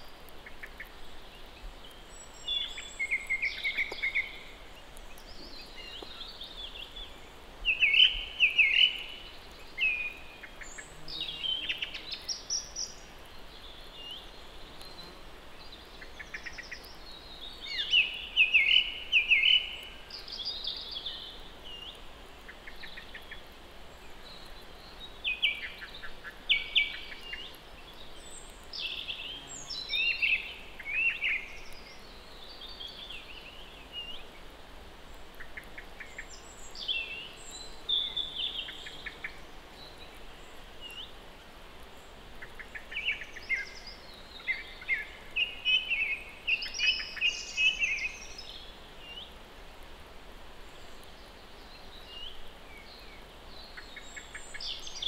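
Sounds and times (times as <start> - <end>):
songbirds chirping: 0.0 - 55.0
steady background hiss: 0.0 - 55.0.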